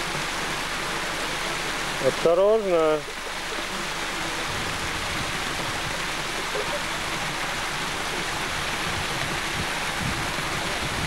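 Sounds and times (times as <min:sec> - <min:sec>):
stream water over cascade: 0:00.0 - 0:11.0.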